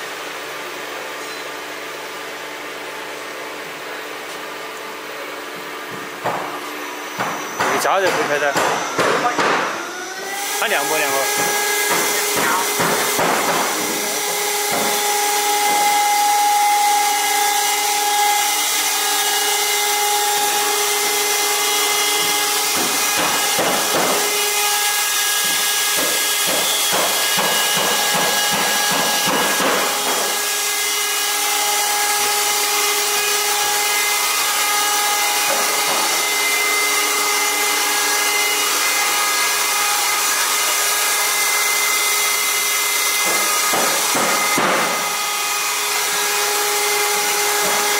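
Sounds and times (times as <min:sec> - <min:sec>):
pump motors whining: 0:00.0 - 0:47.9.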